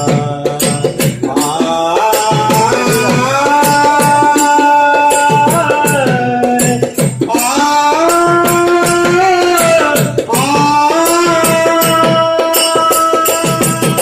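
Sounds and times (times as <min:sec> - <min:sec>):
hand percussion beat: 0:00.0 - 0:14.0
small jingling cymbals: 0:00.0 - 0:14.0.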